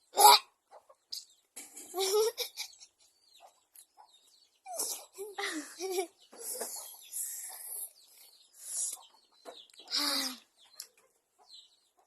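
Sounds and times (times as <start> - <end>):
chickens clucking: 0.2 - 12.0.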